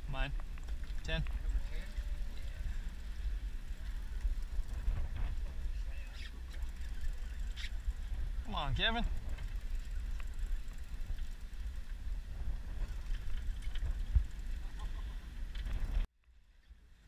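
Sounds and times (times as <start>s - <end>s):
wind and sea rumble: 0.0s - 16.1s.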